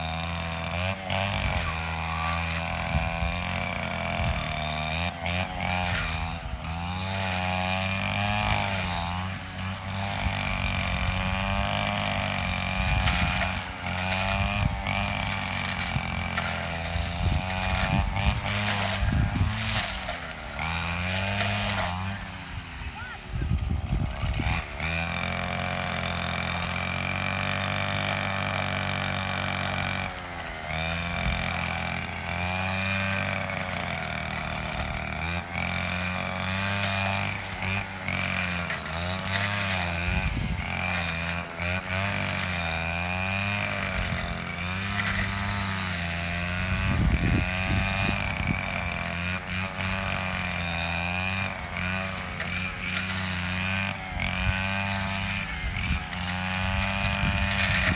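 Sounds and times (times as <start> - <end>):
blade cutting thick grass: 0.0 - 57.9
brush cutter engine running: 0.0 - 57.9.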